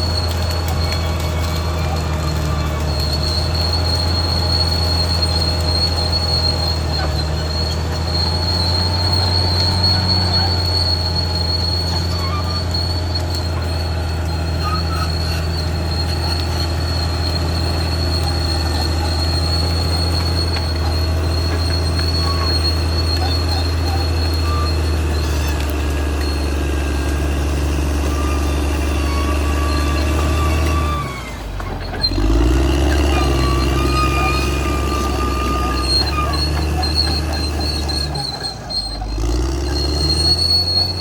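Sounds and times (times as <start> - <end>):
bulldozer diesel engine running: 0.0 - 41.0
steel tracks squealing: 0.0 - 41.0.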